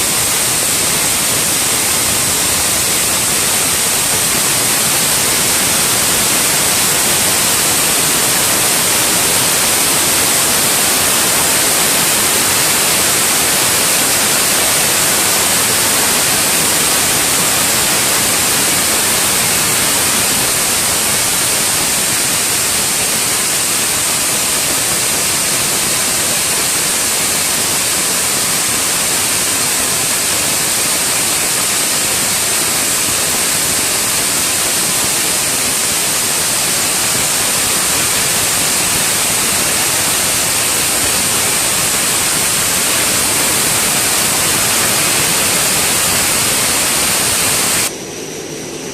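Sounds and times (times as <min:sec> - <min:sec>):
washing machine hiss: 0:00.0 - 0:48.9.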